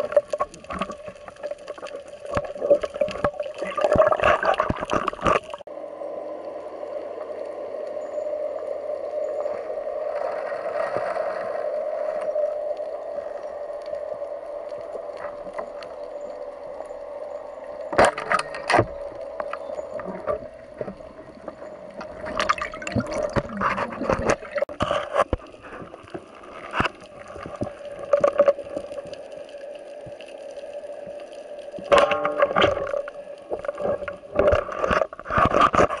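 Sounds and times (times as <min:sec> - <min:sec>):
muffled underwater hum: 0:00.0 - 0:36.0.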